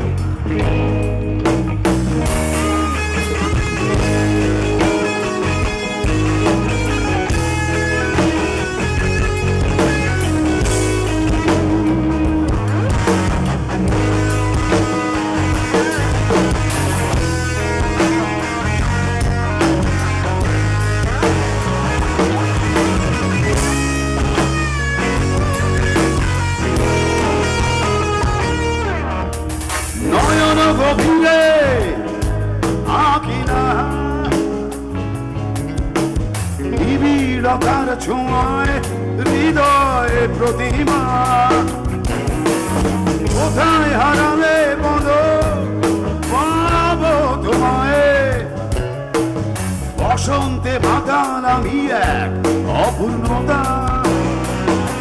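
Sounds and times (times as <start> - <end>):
drum kit: 0.0 - 55.0
electric guitar: 0.0 - 55.0
keyboards: 0.0 - 55.0.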